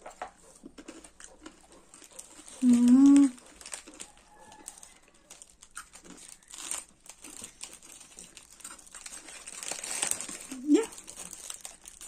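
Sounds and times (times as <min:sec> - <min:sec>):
crunchy snacks crinkling and chewed: 0:00.0 - 0:12.0.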